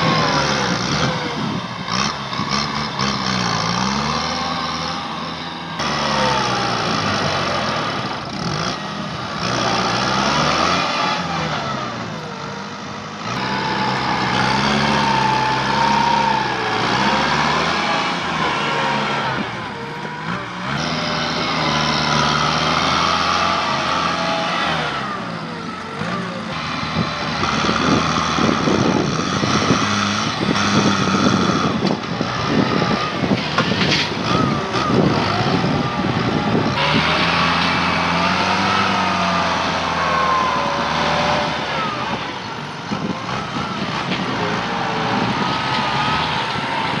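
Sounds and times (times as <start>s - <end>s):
tractor diesel engine: 0.0s - 47.0s.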